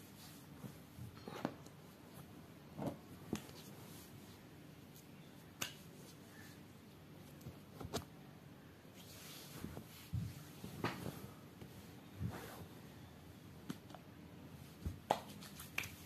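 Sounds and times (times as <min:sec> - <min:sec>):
faint room noise: 0:00.0 - 0:16.0.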